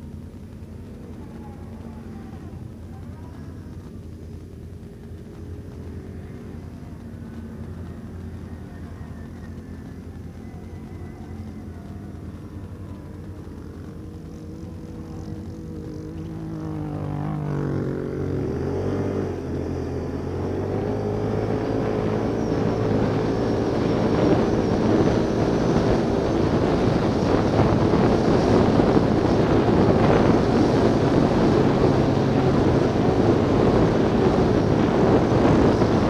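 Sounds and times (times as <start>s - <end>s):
quad bike engine under throttle: 0.0s - 36.0s
wind rushing on microphone: 0.0s - 36.0s.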